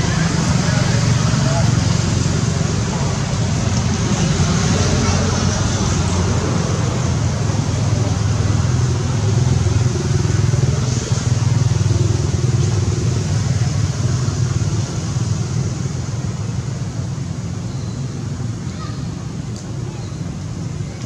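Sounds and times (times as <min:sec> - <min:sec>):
motor vehicle engine drone: 0:00.0 - 0:21.0.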